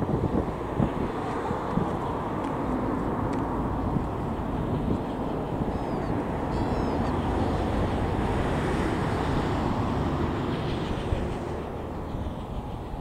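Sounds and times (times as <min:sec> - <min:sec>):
distant steam locomotive running: 0:00.0 - 0:13.0
wind on microphone: 0:00.0 - 0:13.0.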